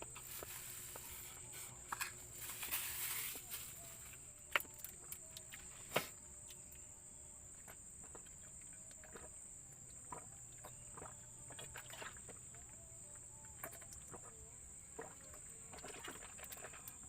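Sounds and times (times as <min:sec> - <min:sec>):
high-pitched insect drone: 0:00.2 - 0:14.6.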